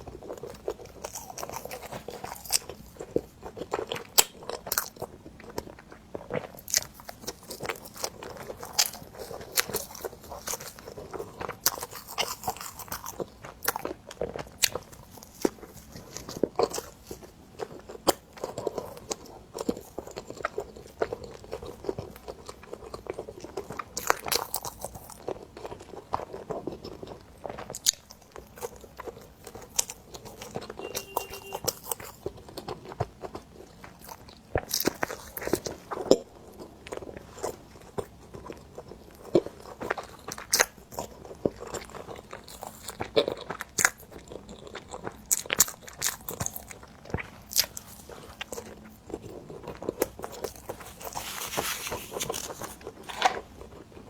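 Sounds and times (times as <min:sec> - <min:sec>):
chewing bread with soft crunches: 0:00.0 - 0:54.0.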